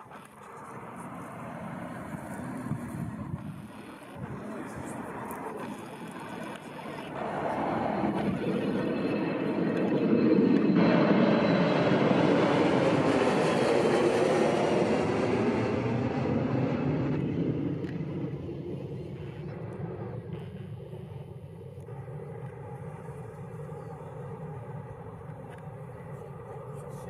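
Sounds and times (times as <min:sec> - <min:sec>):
jet airliner passing by: 0:00.0 - 0:27.0.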